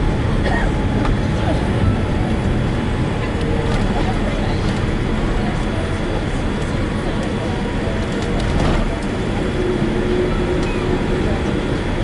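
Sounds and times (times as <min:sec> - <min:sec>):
loud aircraft cabin rumble: 0:00.0 - 0:12.0.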